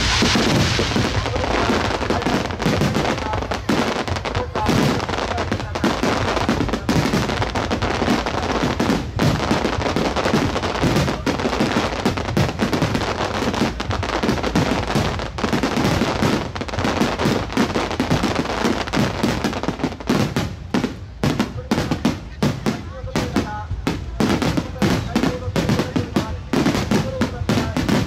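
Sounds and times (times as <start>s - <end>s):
fireworks booming and crackling: 0.0s - 28.0s.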